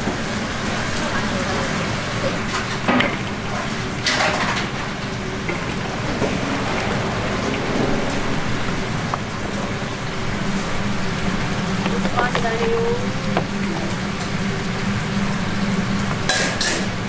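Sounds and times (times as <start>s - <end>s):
crackling sizzle of cooking: 0.0s - 17.0s.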